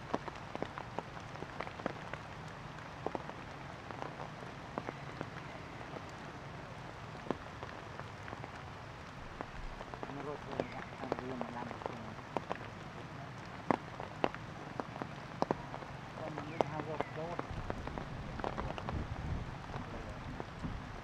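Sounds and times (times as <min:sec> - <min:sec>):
rain pattering: 0:00.0 - 0:21.0
raindrops hitting close by: 0:00.0 - 0:21.0.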